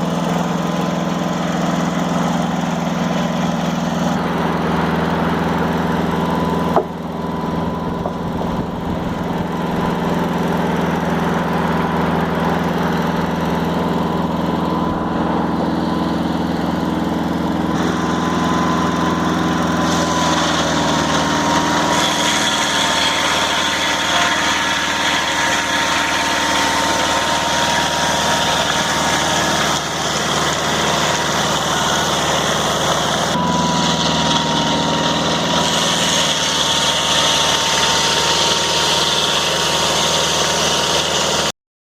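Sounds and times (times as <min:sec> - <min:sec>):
sawmill engine running: 0:00.0 - 0:41.5.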